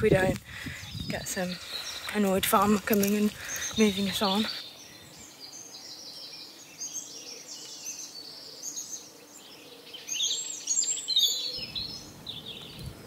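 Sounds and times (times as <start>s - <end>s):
faint outdoor noise: 0.0s - 13.0s
small birds chirping: 0.0s - 13.0s.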